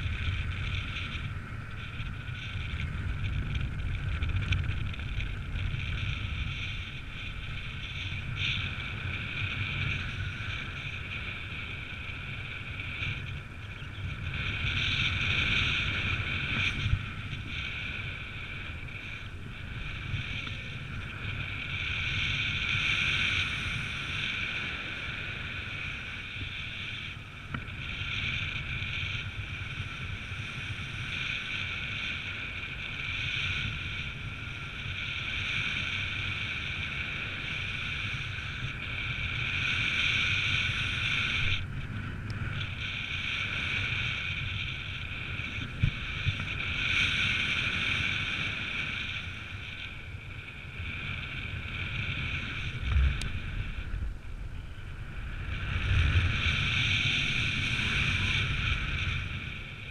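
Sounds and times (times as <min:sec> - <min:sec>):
steady high hiss: 0:00.0 - 0:59.9
wind buffeting microphone: 0:00.0 - 0:59.9.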